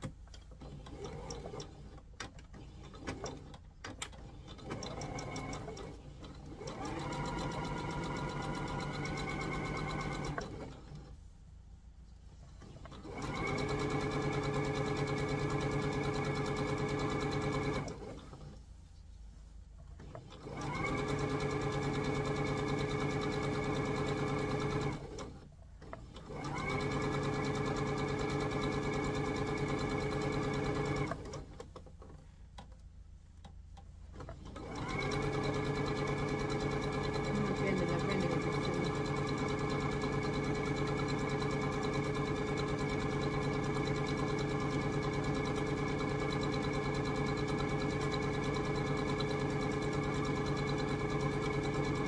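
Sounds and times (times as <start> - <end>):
sewing machine stitching: 0.0 - 11.2, 12.4 - 18.6, 19.9 - 32.2, 34.1 - 52.0.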